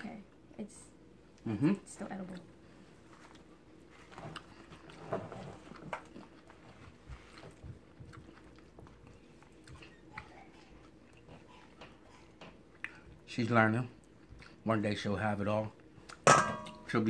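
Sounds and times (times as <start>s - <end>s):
soft squishing of food: 2.2s - 17.0s.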